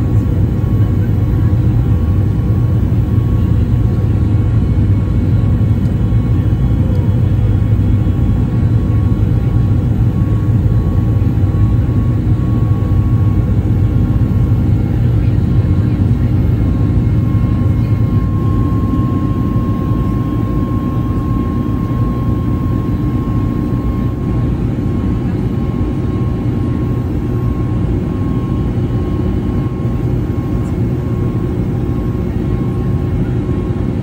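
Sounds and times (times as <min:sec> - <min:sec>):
faint steady whine: 0:00.0 - 0:34.0
jet engine rumble in cabin: 0:00.0 - 0:34.0.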